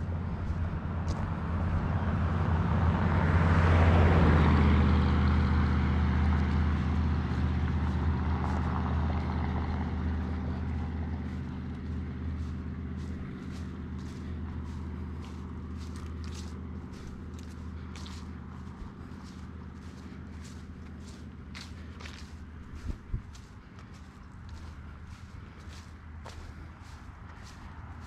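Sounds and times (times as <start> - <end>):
vehicle engine passing by: 0.0 - 28.0.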